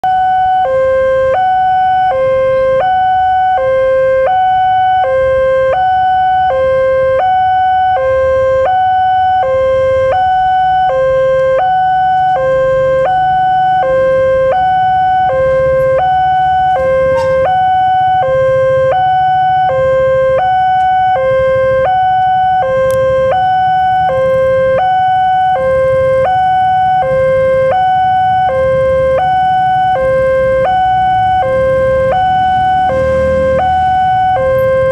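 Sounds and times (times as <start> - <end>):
two-tone level crossing alarm: 0.0 - 34.9.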